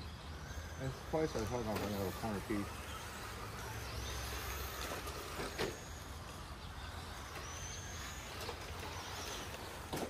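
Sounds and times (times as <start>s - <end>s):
rc car motors whining: 0.0s - 10.0s.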